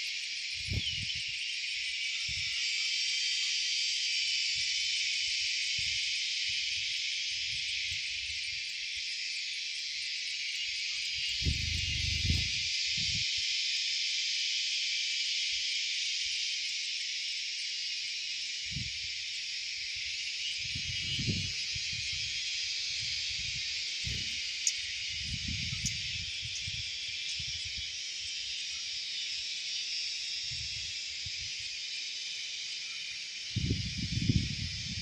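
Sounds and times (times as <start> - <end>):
insects shrilling: 0.0 - 35.0.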